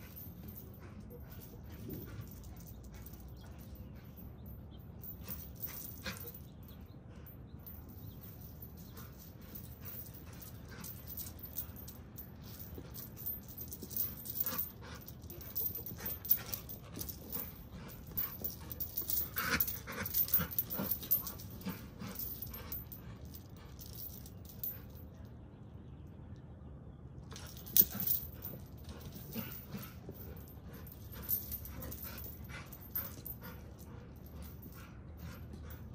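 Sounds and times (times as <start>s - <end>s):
rattling and clicking: 0.0s - 25.0s, 27.3s - 35.9s.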